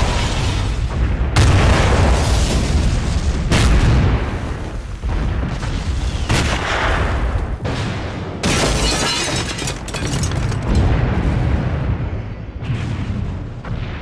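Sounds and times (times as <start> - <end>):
explosions with deep rumble: 0.0 - 8.9, 9.6 - 14.0.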